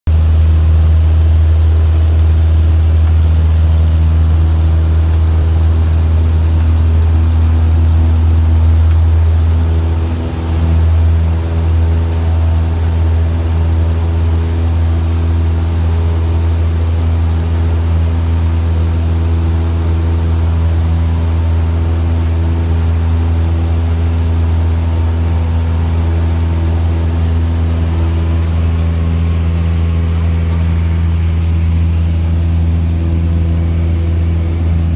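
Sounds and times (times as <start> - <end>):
airplane engine drone in cabin: 0.1 - 34.9.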